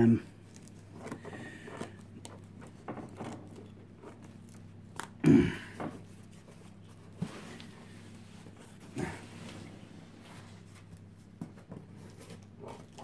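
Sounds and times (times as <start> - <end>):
handling noises: 0.0 - 13.0.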